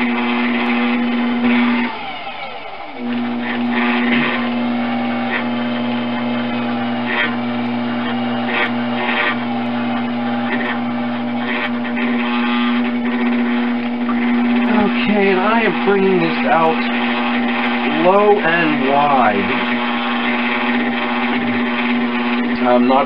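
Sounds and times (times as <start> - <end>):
potter's wheel motor humming: 0.0 - 23.0.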